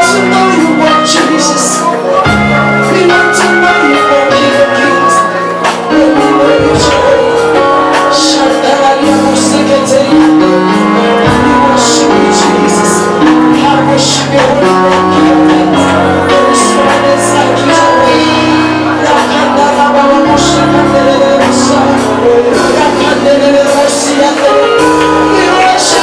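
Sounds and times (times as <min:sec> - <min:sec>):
worship singing over a band: 0:00.0 - 0:26.0.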